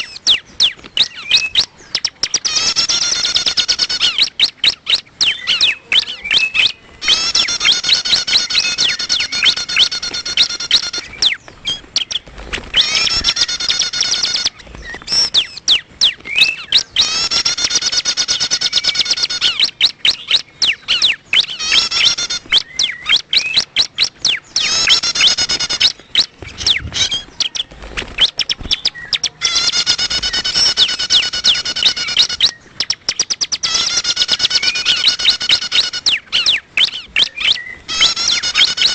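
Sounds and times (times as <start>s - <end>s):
bird buzzy rasping calls: 0.0s - 38.9s
bird sharp ticking notes: 0.0s - 38.9s.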